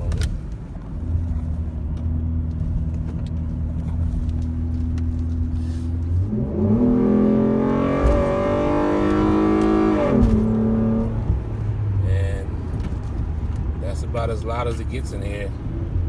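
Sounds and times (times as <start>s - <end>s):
car engine and exhaust droning: 0.0s - 16.0s.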